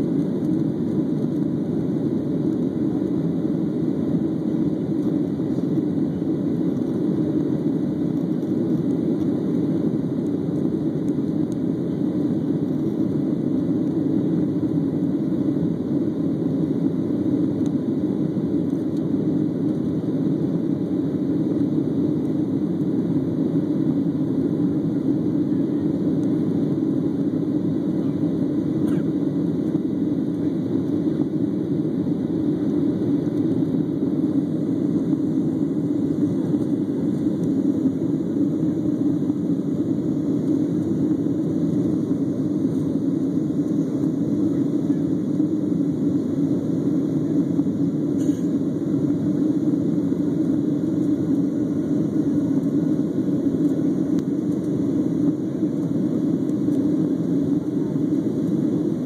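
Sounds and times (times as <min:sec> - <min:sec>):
jet engine rushing in cabin: 0:00.0 - 0:59.0.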